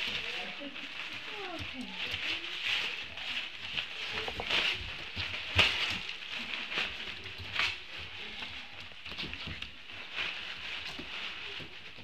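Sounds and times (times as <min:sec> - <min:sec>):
puppies rustling in shavings: 0:00.0 - 0:12.0.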